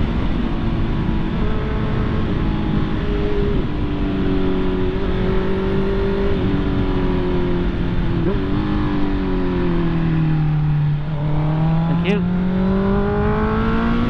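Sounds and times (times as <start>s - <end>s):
wind and road rush: 0.0s - 14.0s.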